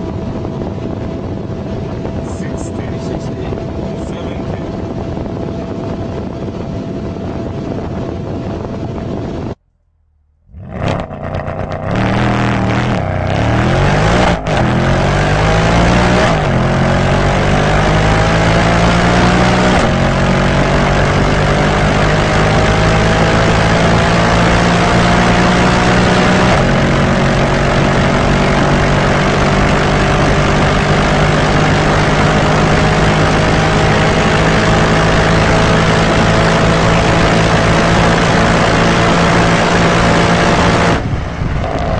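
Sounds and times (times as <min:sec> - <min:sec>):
car engine accelerating hard: 0:00.0 - 0:08.0, 0:10.5 - 0:41.9
engine and wind noise: 0:00.0 - 0:09.7, 0:10.4 - 0:41.9.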